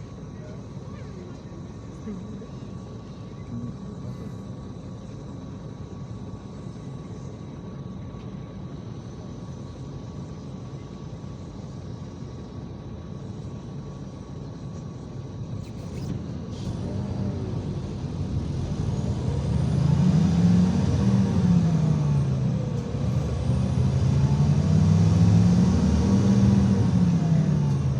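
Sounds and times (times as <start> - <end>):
bus engine and road rumble: 0.0 - 27.9.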